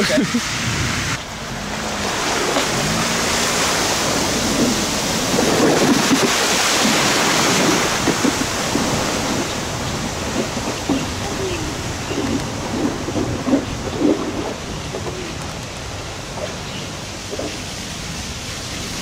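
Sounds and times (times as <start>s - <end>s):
water rushing and splashing: 0.0s - 19.0s
wind buffeting microphone: 0.0s - 19.0s.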